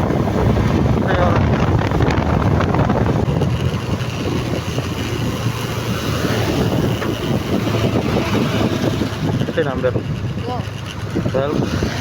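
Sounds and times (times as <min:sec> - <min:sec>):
motorcycle engine and road rumble: 0:00.0 - 0:12.0
wind on microphone: 0:00.0 - 0:12.0.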